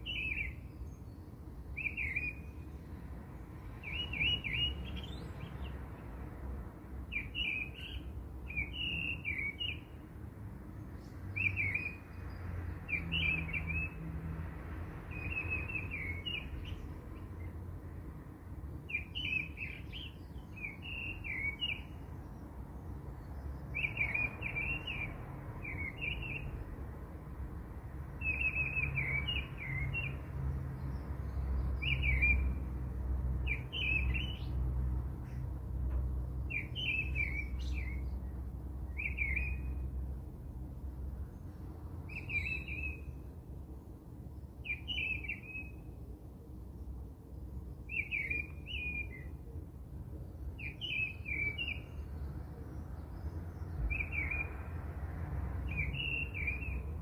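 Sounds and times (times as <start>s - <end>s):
small birds chirping: 0.0s - 14.0s, 14.9s - 26.8s, 28.0s - 46.0s, 46.6s - 54.8s, 55.6s - 57.0s.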